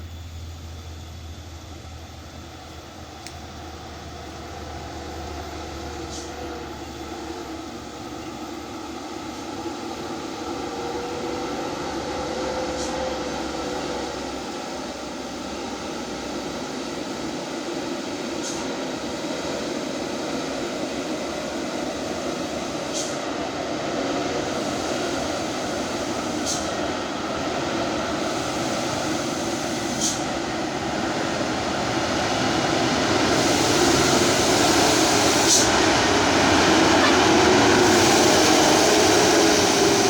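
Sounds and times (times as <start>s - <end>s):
diesel truck engine roaring: 0.0s - 40.0s.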